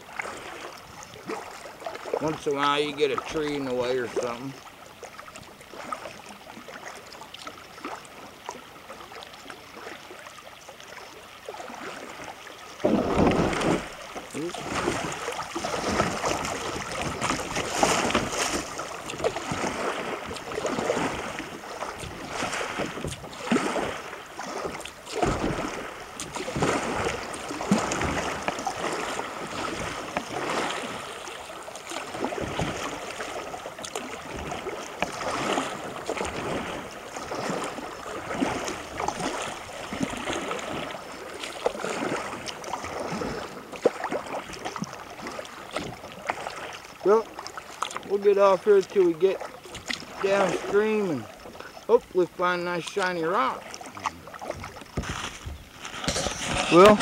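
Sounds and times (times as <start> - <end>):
water splashing against kayak hull: 0.0 - 57.0.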